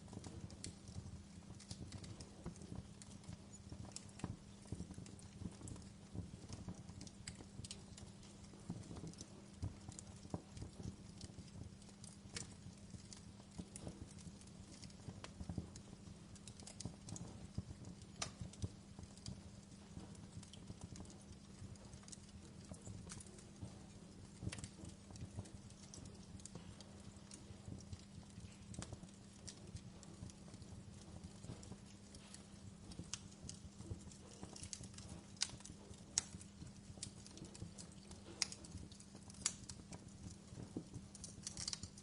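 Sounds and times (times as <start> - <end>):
log fire crackling and popping: 0.0 - 42.0.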